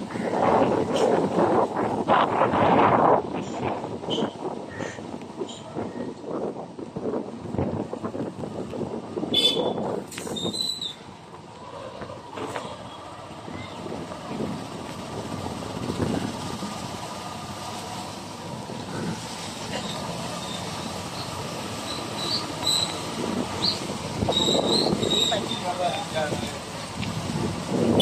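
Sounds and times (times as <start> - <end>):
distant traffic rumble: 0.0 - 28.0.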